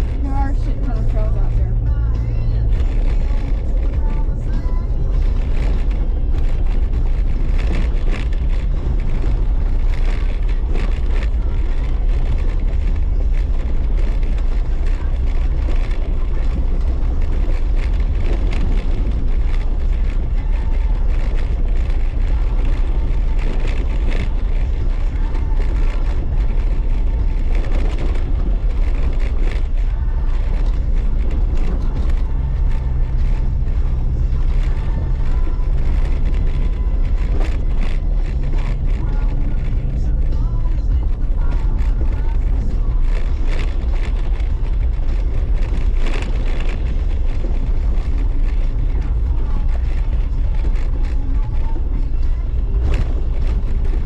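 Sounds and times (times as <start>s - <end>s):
vehicle driving on dirt trail: 0.0s - 54.0s.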